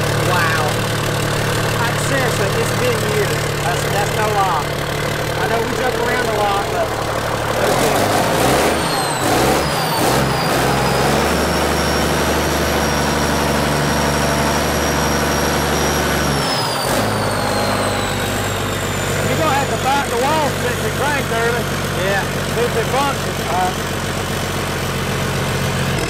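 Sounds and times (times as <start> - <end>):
excavator diesel engine revving: 0.0 - 26.0.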